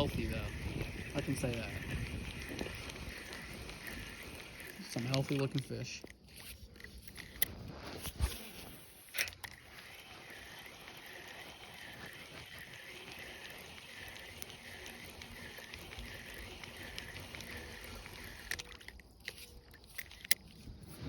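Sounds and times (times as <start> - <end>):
sharp clicks: 0.0 - 8.4, 9.1 - 20.6.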